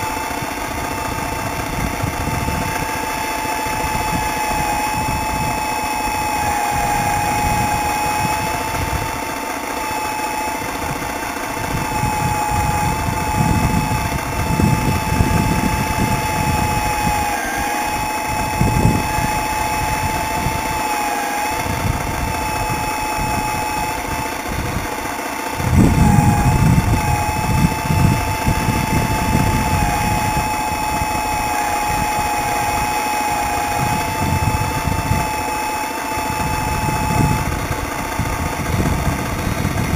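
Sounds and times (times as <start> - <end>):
hydraulic pump whine: 0.0 - 39.9.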